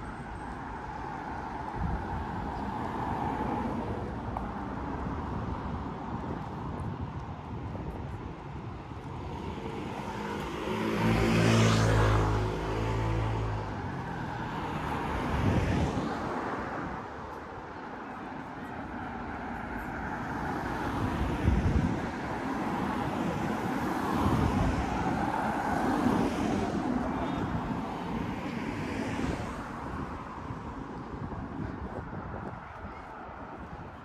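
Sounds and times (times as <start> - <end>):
road traffic hum: 0.0 - 34.0.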